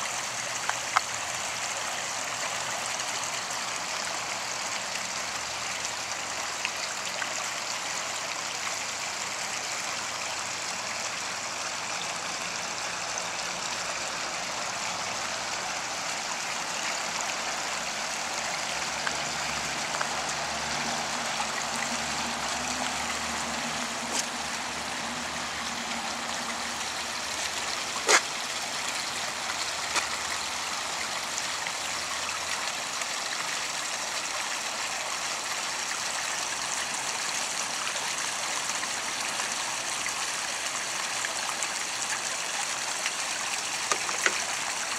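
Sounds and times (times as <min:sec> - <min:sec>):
water splashing and trickling: 0:00.0 - 0:44.9.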